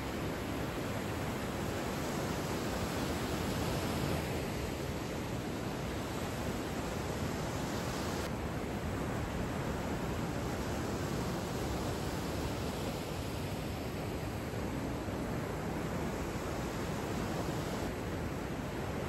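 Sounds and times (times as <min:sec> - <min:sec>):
waves breaking and churning: 0:00.0 - 0:19.0.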